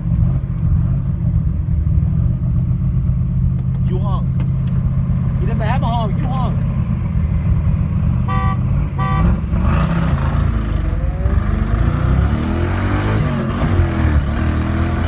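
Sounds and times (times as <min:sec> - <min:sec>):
car engines accelerating: 0:00.0 - 0:15.0.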